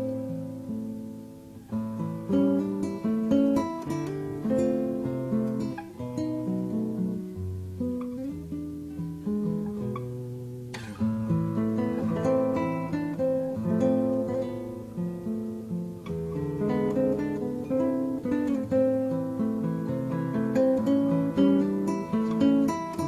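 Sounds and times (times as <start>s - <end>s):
acoustic guitar music: 0.0s - 23.0s.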